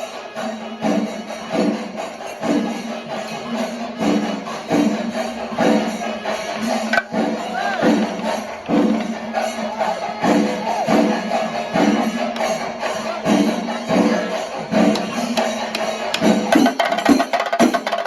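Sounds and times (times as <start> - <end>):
cymbals clashing: 0.0 - 18.0
drums beaten with sticks: 0.0 - 18.0.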